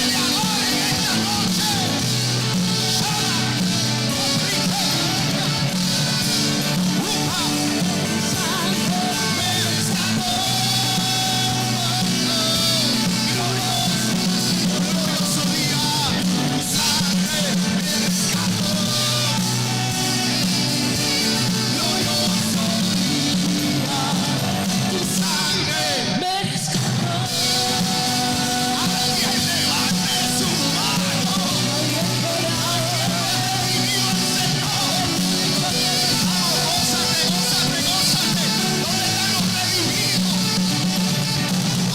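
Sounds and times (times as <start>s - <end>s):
person singing: 0.0s - 41.9s
worship song played by a band: 0.0s - 41.9s.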